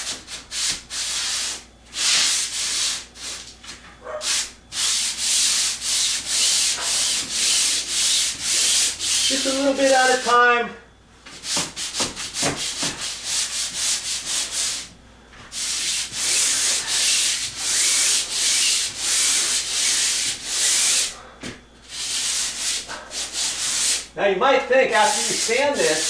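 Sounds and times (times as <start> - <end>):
sandpaper scrubbing drywall: 0.0 - 10.4, 11.3 - 14.9, 15.5 - 21.2, 21.8 - 26.0.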